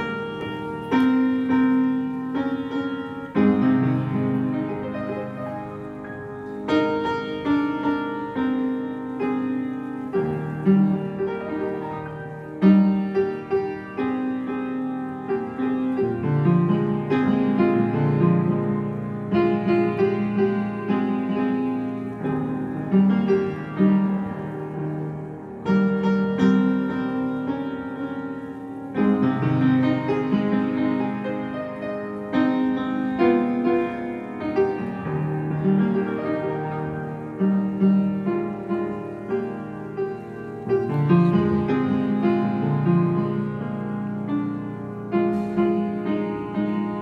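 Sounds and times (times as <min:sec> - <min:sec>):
upright piano playing: 0:00.0 - 0:47.0.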